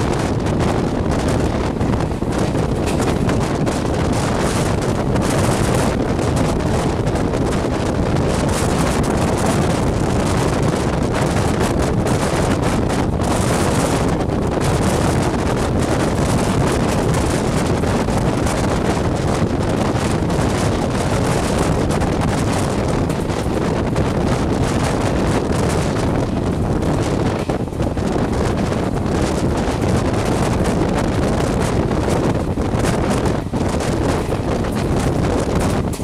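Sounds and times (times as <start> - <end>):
moving train rushing: 0.0 - 36.0
wind buffeting microphone: 0.0 - 36.0.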